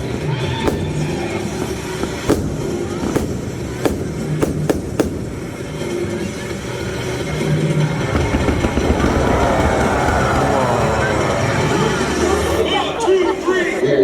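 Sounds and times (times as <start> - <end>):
fireworks cracking: 0.0 - 11.3
steady background din: 0.0 - 13.0.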